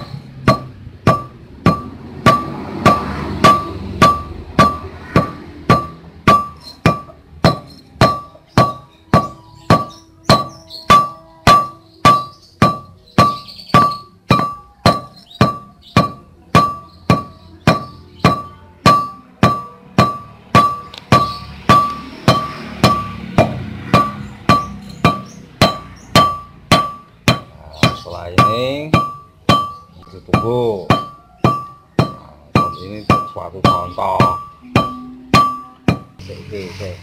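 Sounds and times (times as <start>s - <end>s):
pestle clanking in metal mortar: 0.0s - 36.2s.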